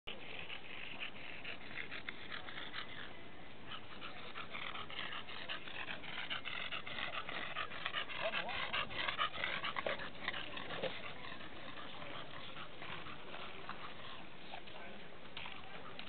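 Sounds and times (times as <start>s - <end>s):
dog panting hard: 0.1s - 14.8s.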